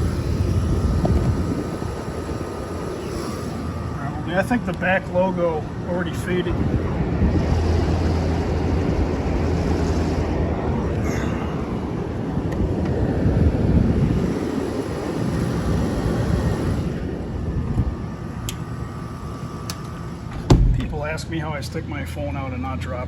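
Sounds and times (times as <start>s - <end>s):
condenser fan rushing: 0.0s - 23.0s
low compressor hum: 0.0s - 23.0s.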